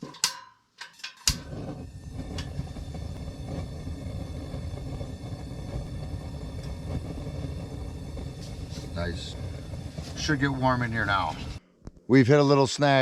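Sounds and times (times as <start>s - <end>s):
heater igniter click: 0.0s - 11.4s
gas heater burning rumble: 1.1s - 11.6s.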